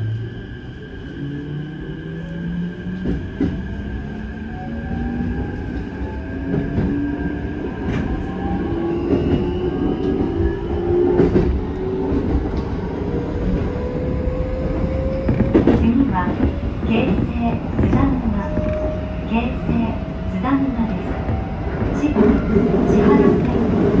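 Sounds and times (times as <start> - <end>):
train running gear rumble: 2.2 - 24.0.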